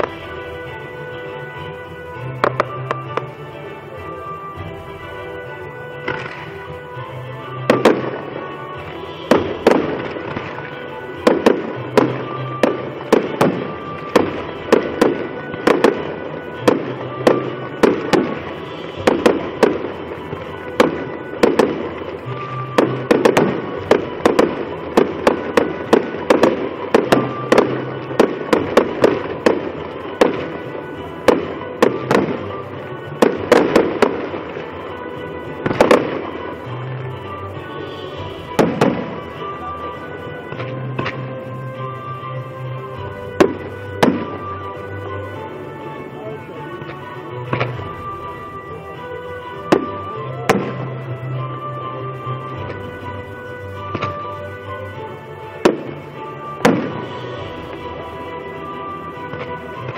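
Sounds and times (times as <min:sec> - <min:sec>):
fireworks bursting: 0:00.0 - 0:59.9
music playing: 0:00.0 - 0:59.9.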